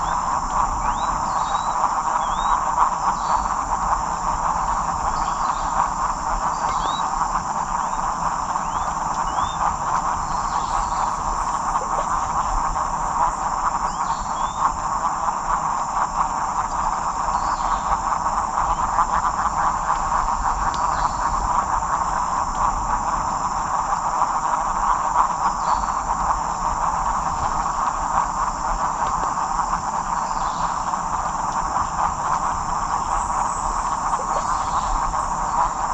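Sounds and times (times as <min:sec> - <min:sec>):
frogs chorus: 0:00.0 - 0:35.9
high insect drone: 0:00.0 - 0:35.9.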